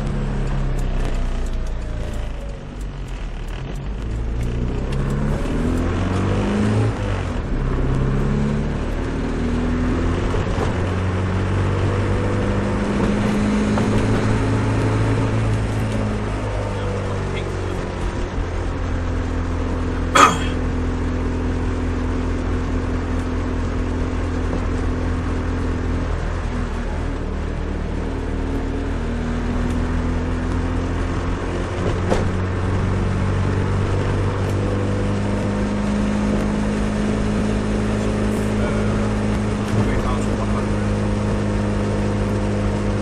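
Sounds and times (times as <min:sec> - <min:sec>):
car exhaust drone: 0:00.0 - 0:43.0.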